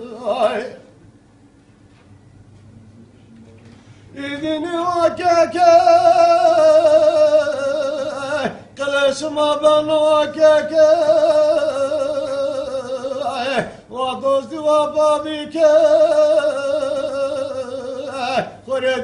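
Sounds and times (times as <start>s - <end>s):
man singing unaccompanied: 0.0s - 0.9s, 4.1s - 19.0s.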